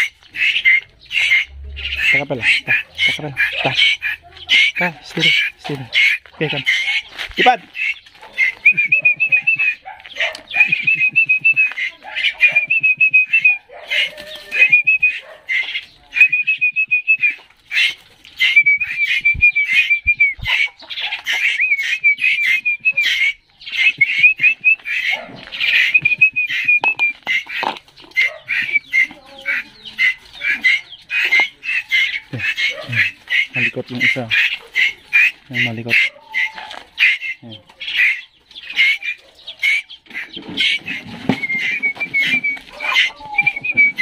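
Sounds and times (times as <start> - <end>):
chicks begging with high calls: 0.0 - 44.0.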